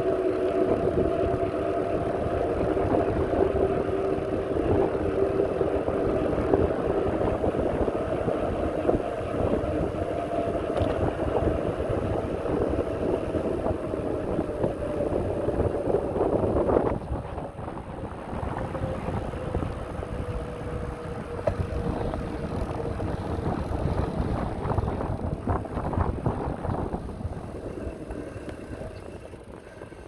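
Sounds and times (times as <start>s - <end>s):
wind rumbling on microphone: 0.0s - 29.6s.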